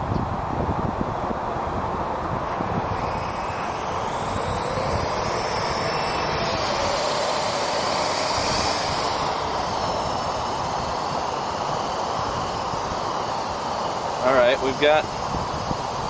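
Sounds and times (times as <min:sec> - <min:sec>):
drone rotors whirring: 0:02.2 - 0:16.0.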